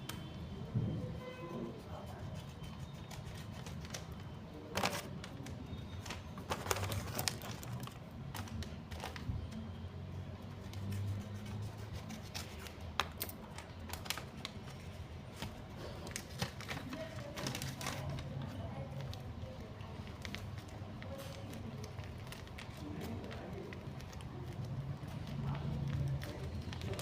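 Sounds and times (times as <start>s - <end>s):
paper packaging crinkling: 2.8s - 9.6s, 10.6s - 27.0s.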